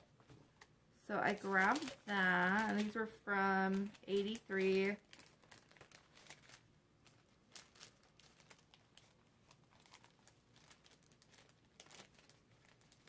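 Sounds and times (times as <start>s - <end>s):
paper packaging crinkling: 1.1s - 13.0s.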